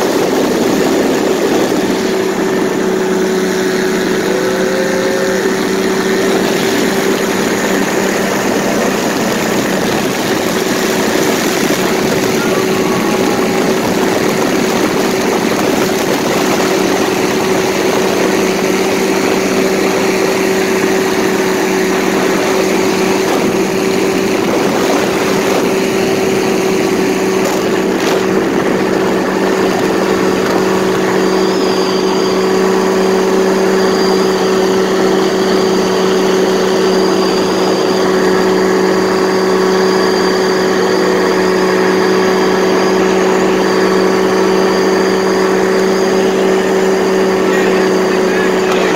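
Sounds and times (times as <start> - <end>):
paramotor engine and propeller: 0.0 - 48.9.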